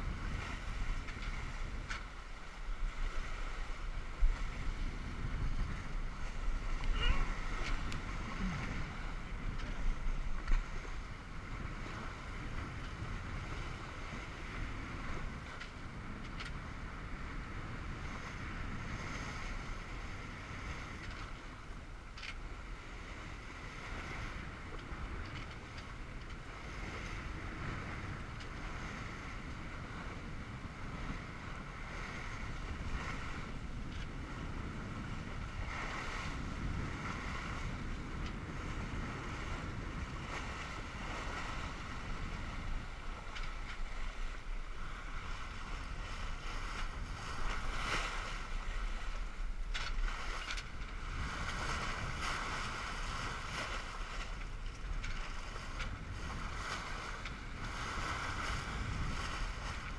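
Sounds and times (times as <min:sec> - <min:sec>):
water splashing along hull: 0:00.0 - 0:59.9
wind buffeting microphone: 0:00.0 - 0:59.9.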